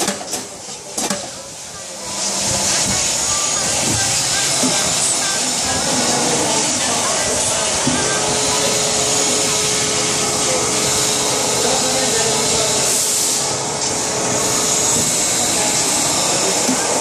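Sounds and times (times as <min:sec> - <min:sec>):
injection moulding machine running: 0:00.0 - 0:17.0.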